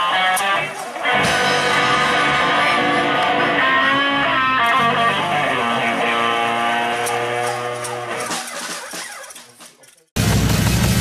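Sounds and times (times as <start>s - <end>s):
electric guitar bending notes: 0.0s - 11.0s
live band playing: 0.0s - 11.0s.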